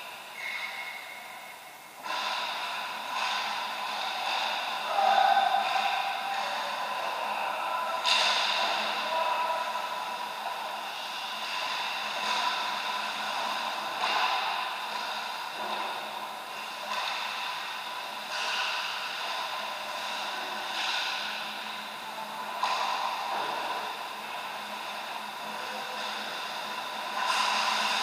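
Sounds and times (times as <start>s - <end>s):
steady machinery hum: 0.0s - 28.0s.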